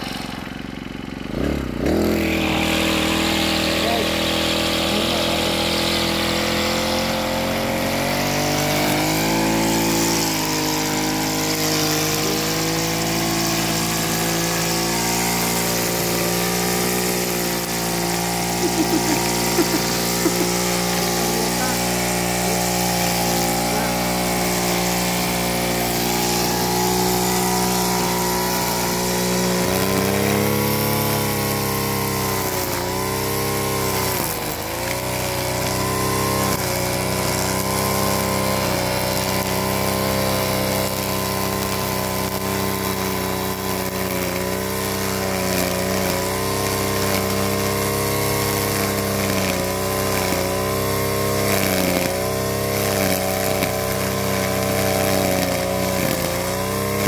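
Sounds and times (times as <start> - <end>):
brush cutter engine revving: 0.0 - 57.0.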